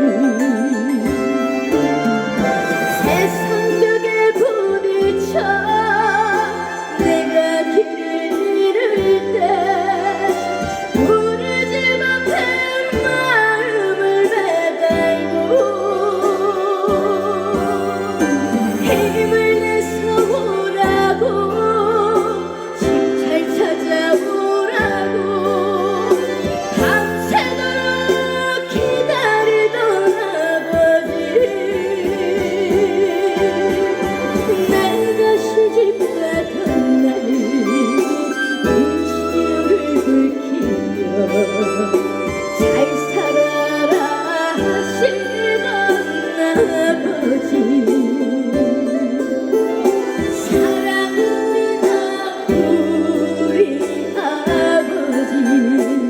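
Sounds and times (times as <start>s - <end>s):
backing music with steady beat: 0.0s - 56.0s
woman singing with vibrato: 0.0s - 56.0s.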